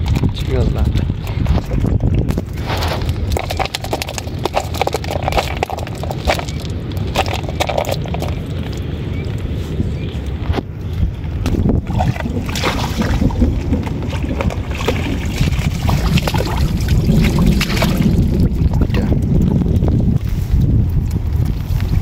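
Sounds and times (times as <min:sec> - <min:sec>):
water splashing and sloshing: 0:00.0 - 0:22.0
wind buffeting microphone: 0:00.0 - 0:22.0.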